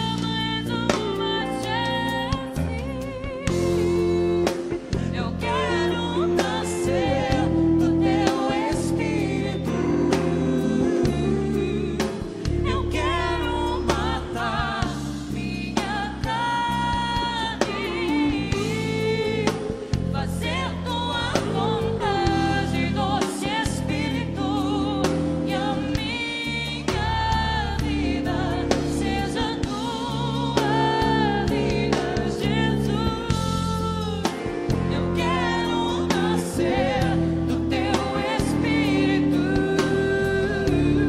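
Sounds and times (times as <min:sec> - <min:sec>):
bass and drum kit: 0:00.0 - 0:41.0
person singing with vibrato: 0:00.0 - 0:41.0.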